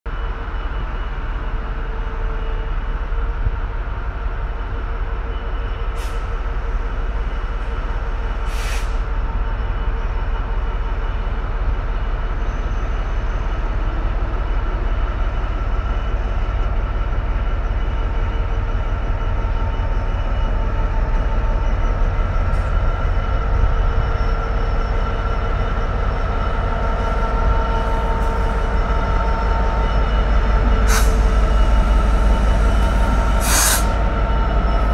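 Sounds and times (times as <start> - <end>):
diesel locomotive low rumble: 0.0 - 34.9.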